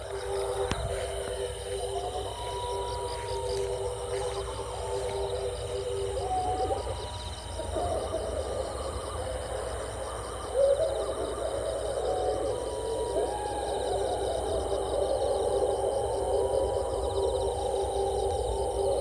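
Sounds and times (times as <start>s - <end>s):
eerie hoot-like calls: 0.0s - 19.0s.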